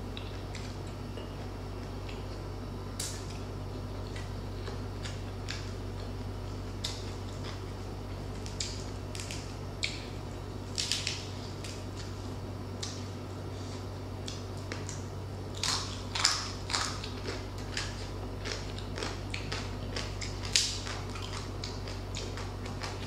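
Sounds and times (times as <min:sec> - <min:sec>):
steady low hum: 0:00.0 - 0:23.0
chewing crispy skin: 0:00.1 - 0:23.0.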